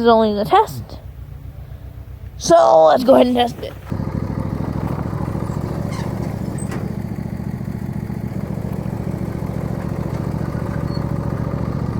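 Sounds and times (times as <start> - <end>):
lawn tractor engine running: 1.0 - 11.9.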